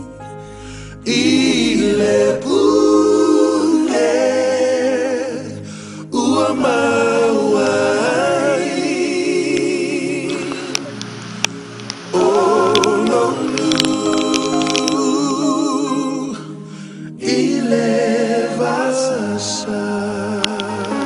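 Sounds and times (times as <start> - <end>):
unaccompanied voices singing: 1.0 - 21.0.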